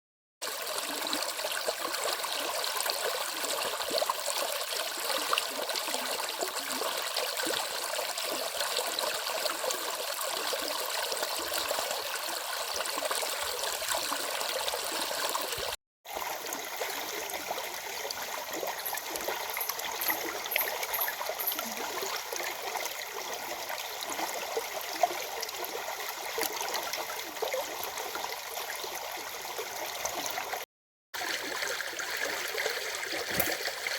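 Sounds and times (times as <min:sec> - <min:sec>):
stream flowing over rocks: 0:00.4 - 0:30.6, 0:31.2 - 0:33.9.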